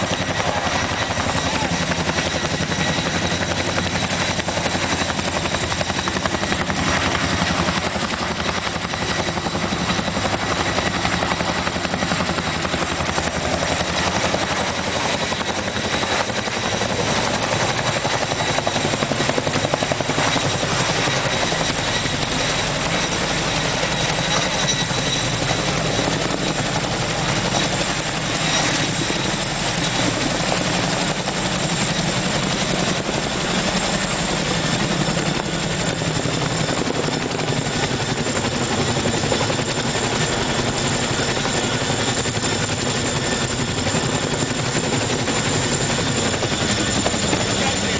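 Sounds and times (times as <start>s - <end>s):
helicopter rotor beat: 0.0s - 47.9s
high turbine whine: 0.0s - 47.9s.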